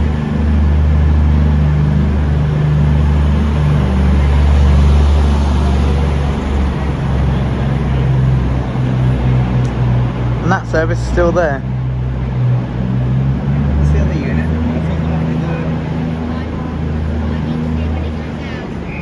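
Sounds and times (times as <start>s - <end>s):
train diesel engines droning: 0.0s - 19.0s.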